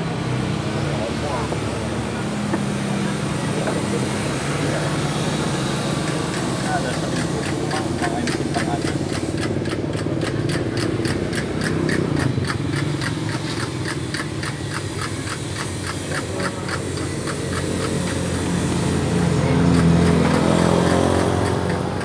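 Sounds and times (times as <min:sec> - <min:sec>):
engine ticking over low hum: 0:00.0 - 0:22.0.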